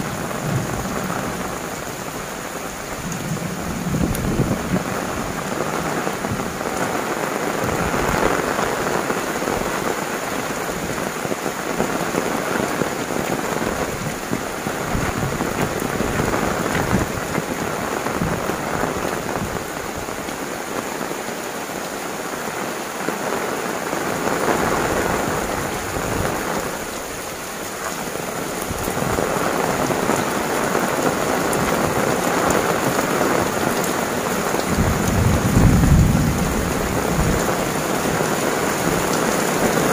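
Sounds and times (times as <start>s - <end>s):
heavy rain on cloth umbrella: 0.0s - 39.9s.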